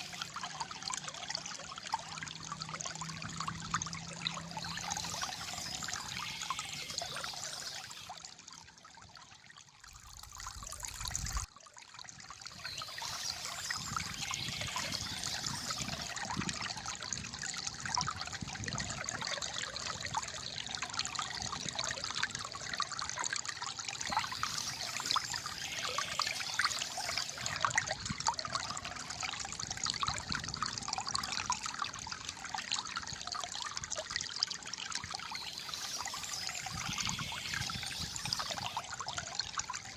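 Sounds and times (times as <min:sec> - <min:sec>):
shallow water trickling: 0:00.0 - 0:39.9.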